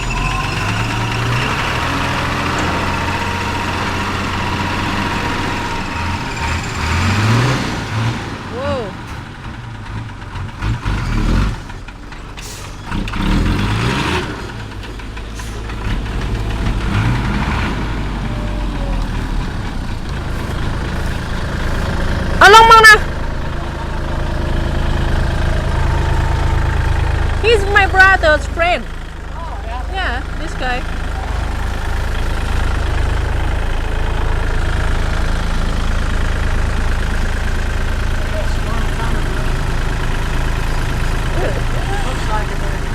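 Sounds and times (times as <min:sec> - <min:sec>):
dump truck diesel engine: 0:00.0 - 0:42.9.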